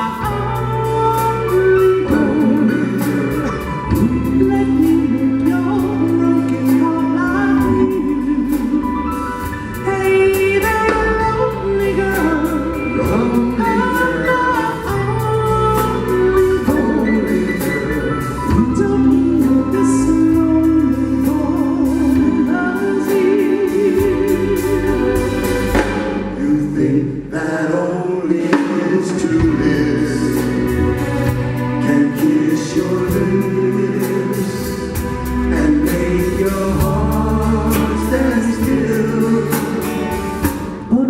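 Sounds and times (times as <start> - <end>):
person singing: 0.0 - 41.0
soul ballad played by band: 0.0 - 41.0
sustained bass: 0.0 - 41.0.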